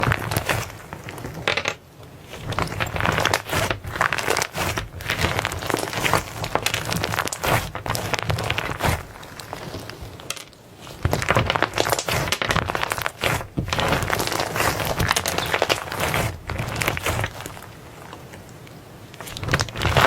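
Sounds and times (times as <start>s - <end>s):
hands squishing slime: 0.0s - 1.4s, 2.2s - 20.0s.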